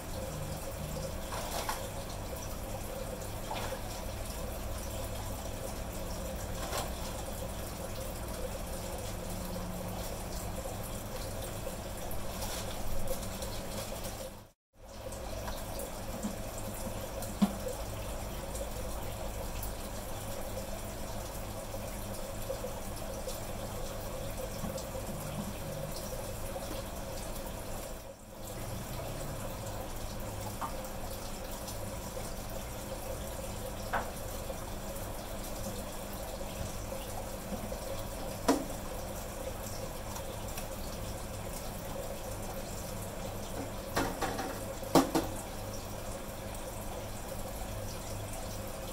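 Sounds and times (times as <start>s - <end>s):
water running and trickling: 0.0s - 48.9s.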